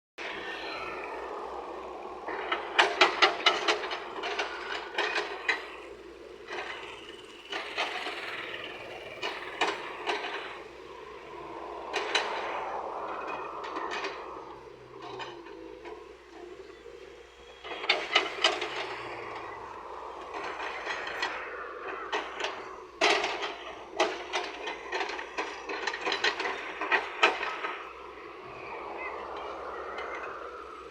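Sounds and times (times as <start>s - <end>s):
excavator engine running: 0.2s - 30.9s.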